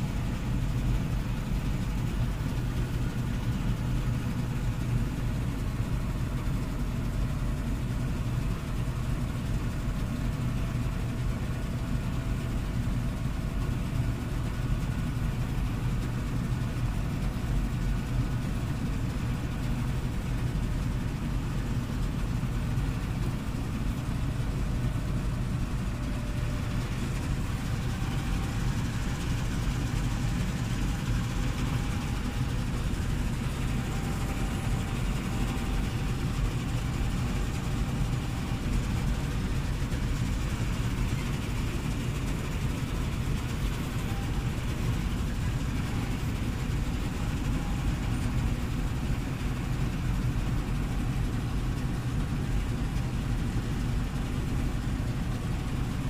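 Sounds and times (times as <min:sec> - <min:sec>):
combine harvester drone: 0:00.0 - 0:56.0
faint machine whine: 0:00.0 - 0:56.0.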